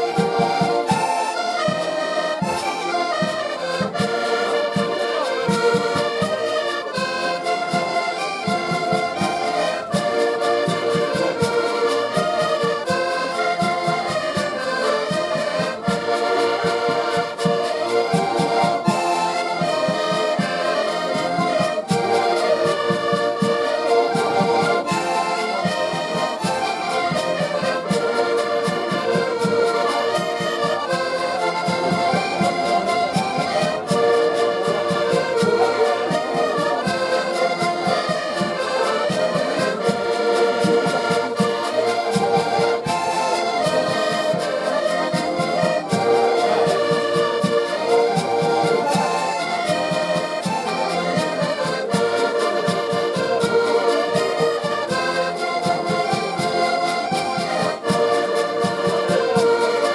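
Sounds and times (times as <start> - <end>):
button accordions playing folk tune: 0.0 - 59.9.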